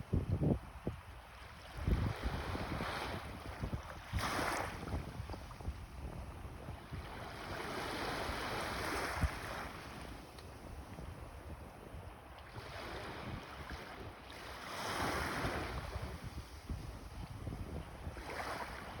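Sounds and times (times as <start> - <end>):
waves breaking on a beach: 0.0 - 19.0
wind buffeting microphone: 0.0 - 19.0.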